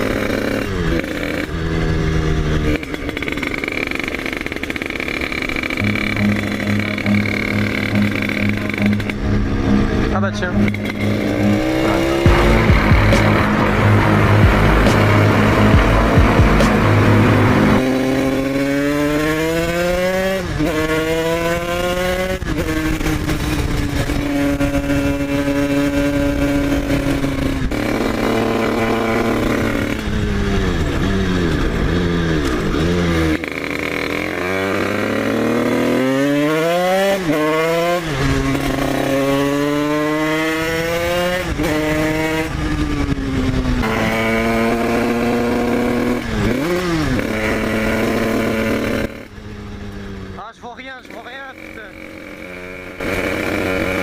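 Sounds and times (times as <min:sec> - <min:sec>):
dirt bike engine shifting gears: 0:00.0 - 0:54.0.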